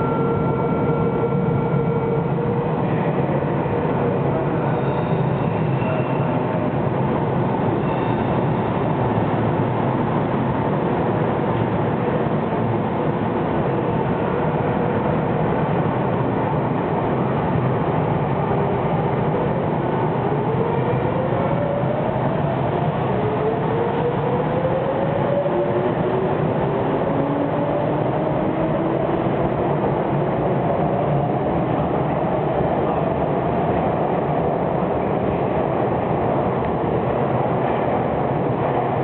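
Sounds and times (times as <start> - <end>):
rising train gear whine: 0.0 - 39.0
train wheels rumbling on rail: 0.0 - 39.0.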